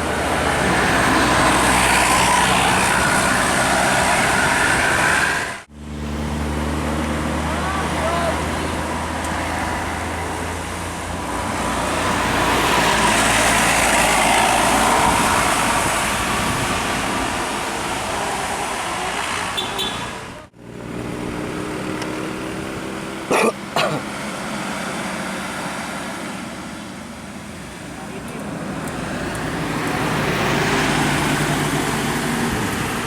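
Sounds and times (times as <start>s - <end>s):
vehicle passing by: 0.0s - 23.3s, 24.1s - 33.0s.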